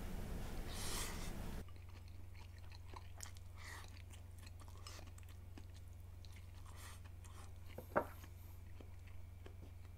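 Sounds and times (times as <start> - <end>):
person chewing food: 1.6 - 9.9.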